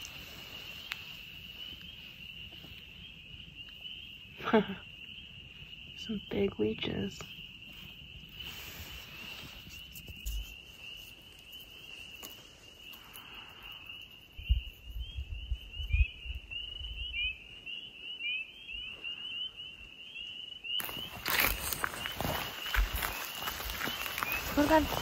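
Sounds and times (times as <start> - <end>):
frogs peeping chorus: 0.0 - 25.0.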